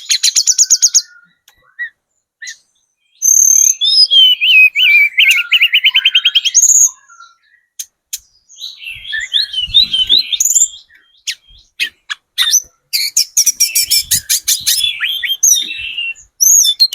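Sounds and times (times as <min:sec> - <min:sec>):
bird singing trills: 0:00.0 - 0:16.9.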